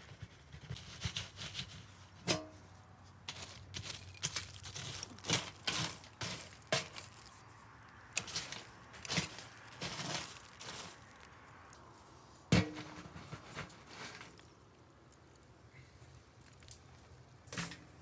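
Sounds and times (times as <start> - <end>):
tongs scraping embers in metal bucket: 0.7 - 18.0.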